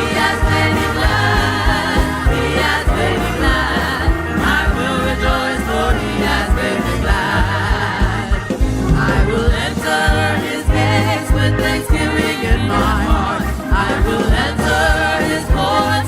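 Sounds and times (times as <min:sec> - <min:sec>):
held bass notes: 0:00.0 - 0:16.0
steady drum beat: 0:00.0 - 0:16.0
voices singing gospel song: 0:00.0 - 0:16.0.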